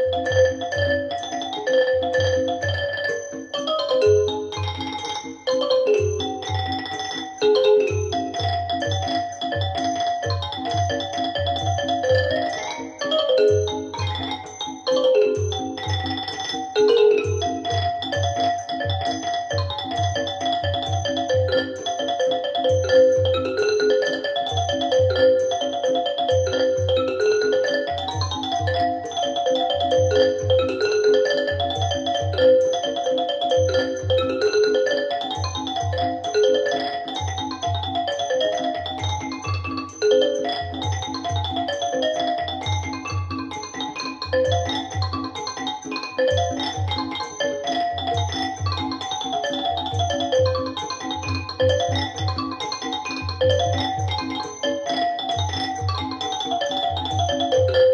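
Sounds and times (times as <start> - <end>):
bright melody over pulsing bass: 0.0 - 57.9.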